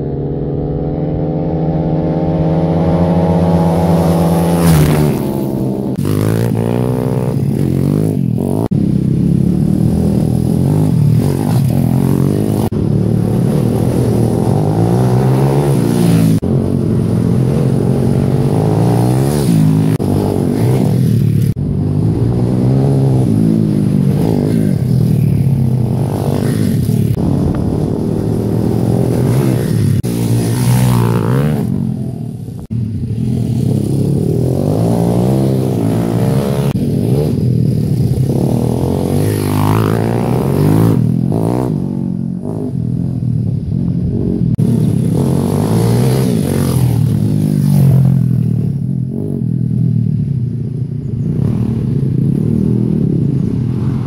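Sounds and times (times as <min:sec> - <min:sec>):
pit bike engines revving: 0:00.0 - 0:54.0.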